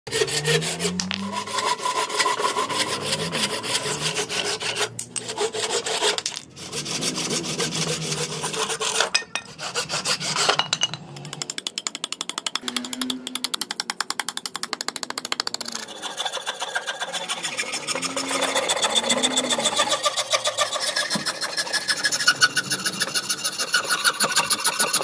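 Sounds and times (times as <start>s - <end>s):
hand saw cutting wood: 0.1s - 10.7s, 12.6s - 25.0s
file scraping wood: 0.1s - 10.8s, 12.6s - 25.0s.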